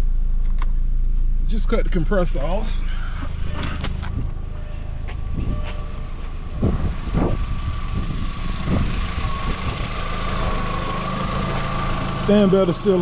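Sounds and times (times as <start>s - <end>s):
car engine idling: 0.0s - 13.0s
thin steady whine: 2.5s - 13.0s.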